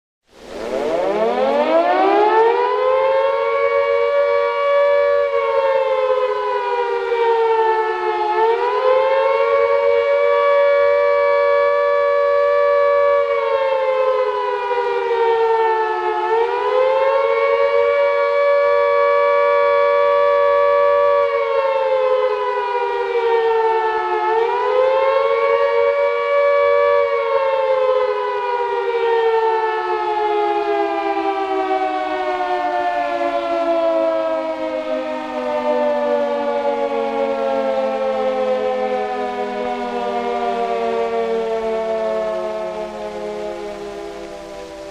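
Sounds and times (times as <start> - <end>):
air raid siren wailing: 0.3 - 44.9.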